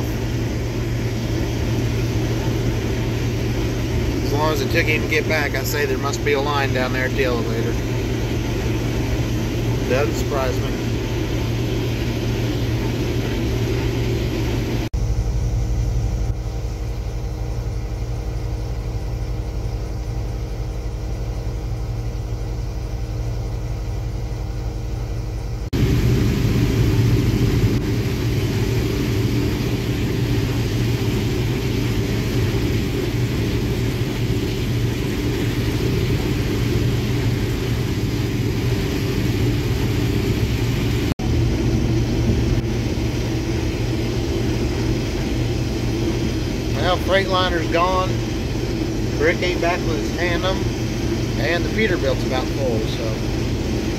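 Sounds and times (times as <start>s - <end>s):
combine harvester engine drone: 0.0s - 53.9s.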